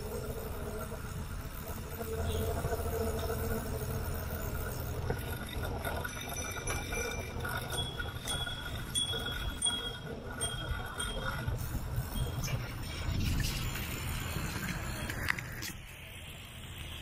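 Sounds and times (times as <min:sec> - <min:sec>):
bicycle tyres rumbling: 0:00.0 - 0:17.0
wind: 0:00.0 - 0:17.0.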